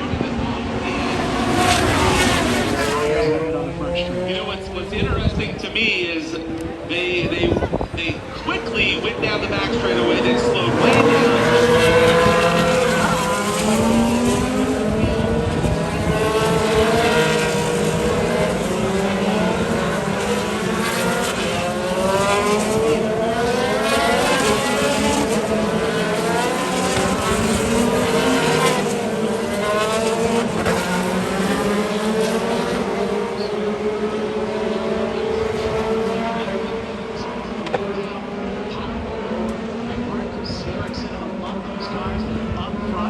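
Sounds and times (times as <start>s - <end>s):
racing cars passing by: 0.0s - 43.0s.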